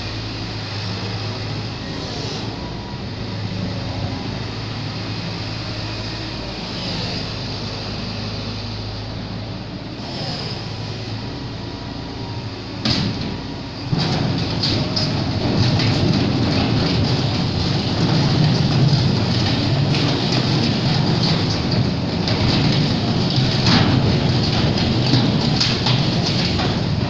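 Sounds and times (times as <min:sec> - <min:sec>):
diesel engine running: 0:00.0 - 0:27.0
loud burst of noise: 0:00.0 - 0:27.0.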